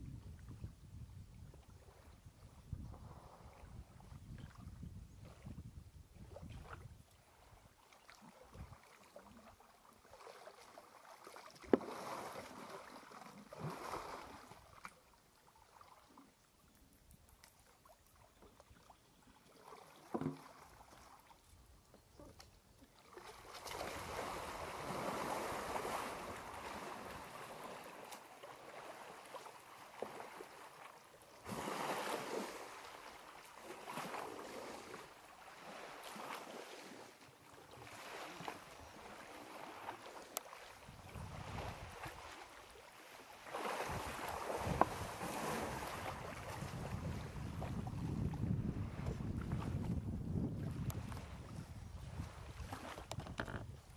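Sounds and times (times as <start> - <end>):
water sloshing and splashing: 6.2 - 53.9.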